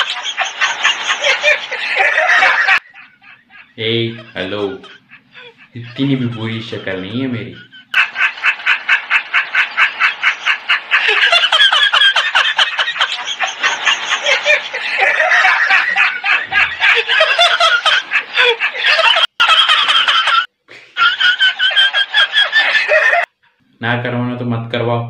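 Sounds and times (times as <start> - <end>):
high-pitched laughter: 0.0 - 6.4, 7.8 - 23.3.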